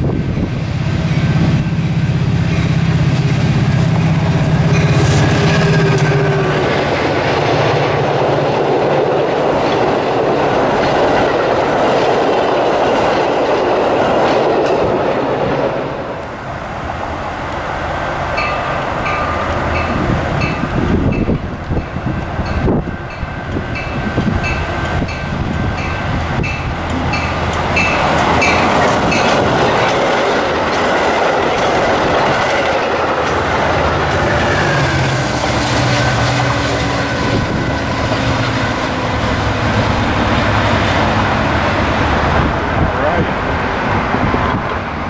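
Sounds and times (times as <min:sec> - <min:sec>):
train wheels clacking on rails: 0:02.4 - 0:15.8, 0:18.4 - 0:42.6.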